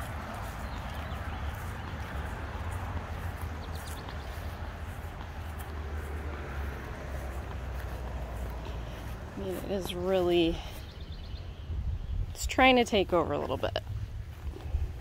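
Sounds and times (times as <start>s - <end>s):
footsteps on grass: 0.0s - 11.2s, 13.9s - 15.0s.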